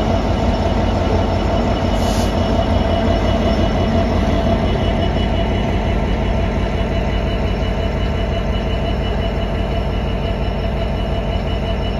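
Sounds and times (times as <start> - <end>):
diesel locomotive engine passing: 0.0 - 11.9.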